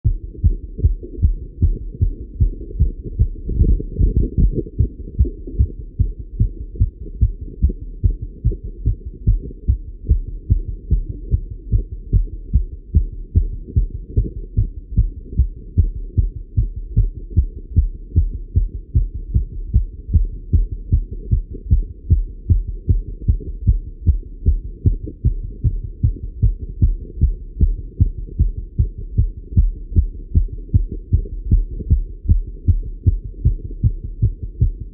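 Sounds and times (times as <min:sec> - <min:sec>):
fast heartbeat thuds: 0:00.0 - 0:34.9.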